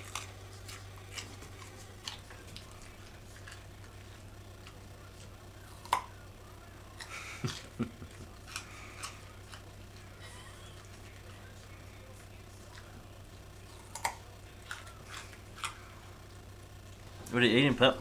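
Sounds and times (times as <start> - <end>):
dog chewing carrot crunches: 0.0 - 18.0.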